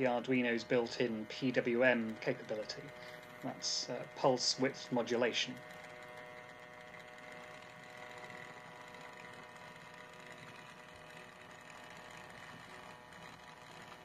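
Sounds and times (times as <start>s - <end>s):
low hum: 0.0s - 14.0s
small electric motor whining: 0.0s - 14.0s.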